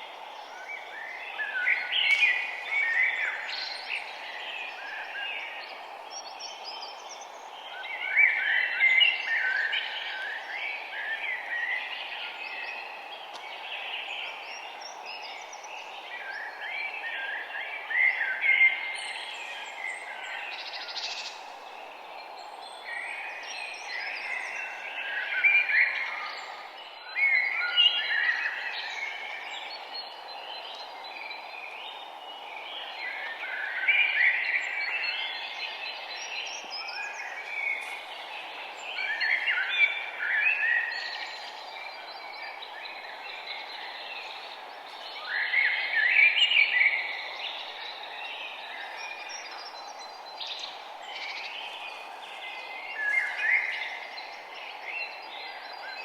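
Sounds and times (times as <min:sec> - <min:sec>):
outdoor background hiss: 0:00.0 - 0:56.0
songbirds chirping: 0:00.0 - 0:56.0.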